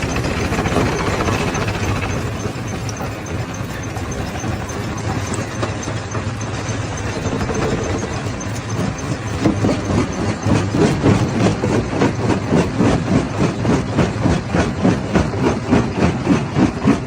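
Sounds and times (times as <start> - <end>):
rock crusher humming: 0.0 - 15.7.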